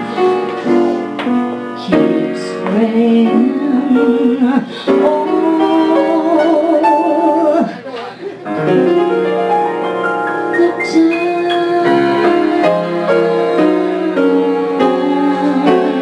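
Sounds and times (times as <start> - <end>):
jazz ballad with piano: 0.0 - 16.0.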